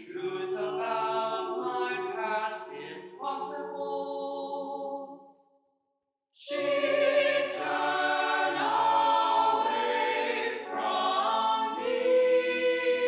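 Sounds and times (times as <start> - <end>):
a cappella choir singing in harmony: 0.0 - 5.0, 6.4 - 13.0.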